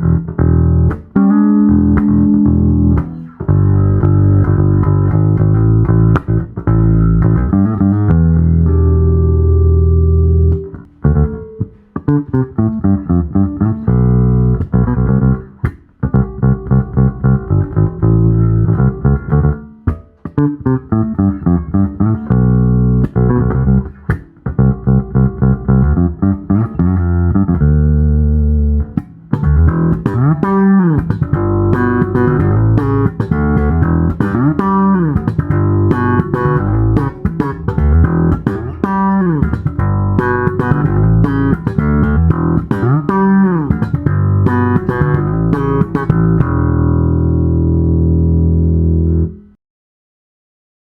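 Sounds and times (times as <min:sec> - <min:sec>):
electric bass playing: 0:00.0 - 0:49.6.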